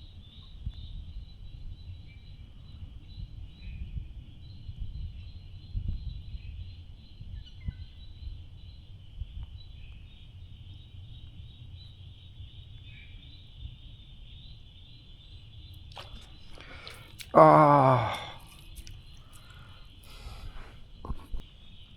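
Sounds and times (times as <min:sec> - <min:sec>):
faint bird calls: 0:00.0 - 0:21.9.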